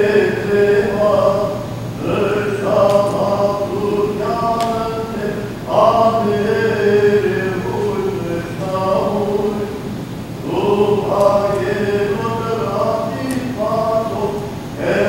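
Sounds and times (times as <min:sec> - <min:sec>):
voices singing liturgical chant: 0:00.0 - 0:15.0.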